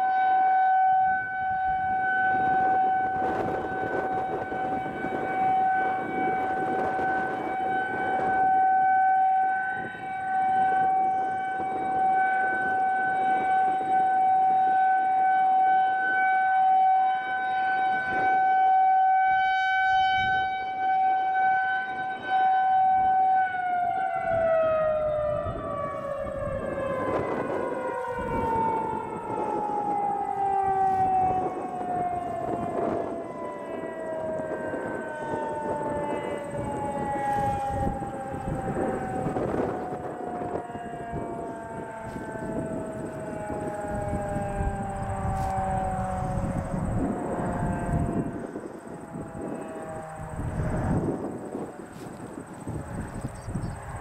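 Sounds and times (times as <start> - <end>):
rotating siren steady tone: 0.0 - 54.0
siren winding down: 0.0 - 54.0.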